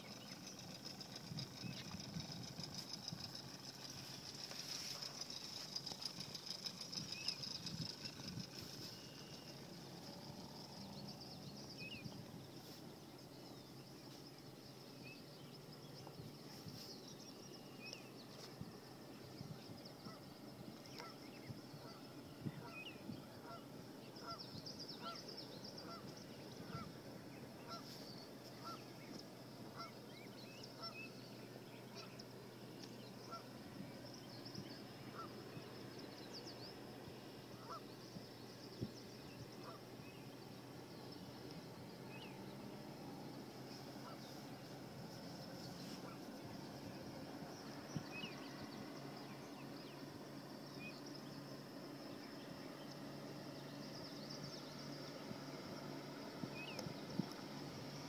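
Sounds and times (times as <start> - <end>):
bird calls: 0.0 - 58.0.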